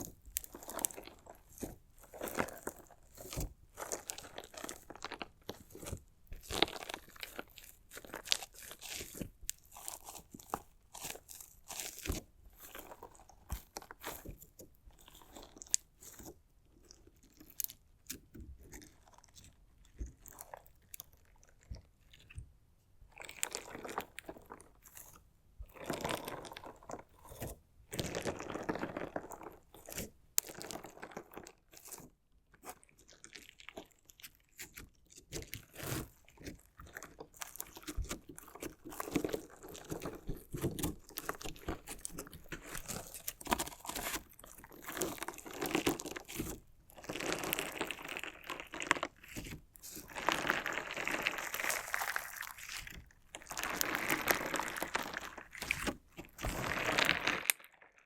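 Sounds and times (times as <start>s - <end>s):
crunchy slime crackling: 0.0s - 16.3s, 23.1s - 58.0s.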